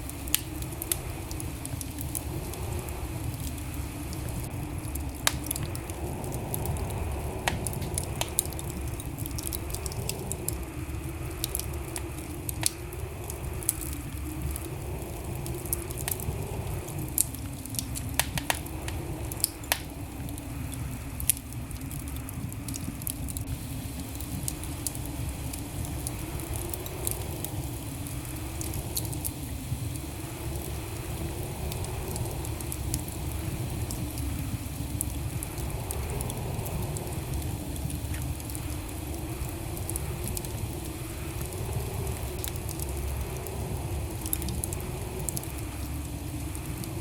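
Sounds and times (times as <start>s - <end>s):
burning logs crackling and popping: 0.0s - 47.0s
fire rumbling: 0.0s - 47.0s.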